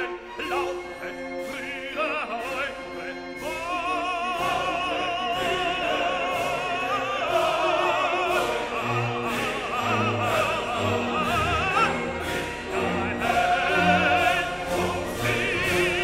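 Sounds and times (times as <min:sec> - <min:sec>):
operatic voice singing: 0:00.0 - 0:16.0
orchestral accompaniment: 0:00.0 - 0:16.0.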